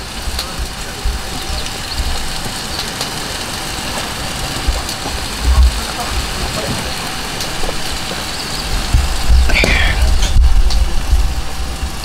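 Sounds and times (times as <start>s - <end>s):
wind: 0.0s - 12.0s
wind buffeting microphone: 0.0s - 12.0s.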